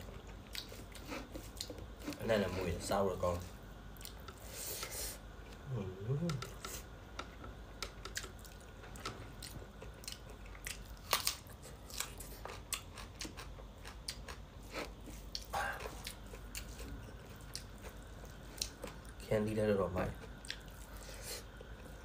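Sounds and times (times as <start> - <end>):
person chewing food: 0.0 - 2.8, 3.9 - 19.2, 20.2 - 22.0.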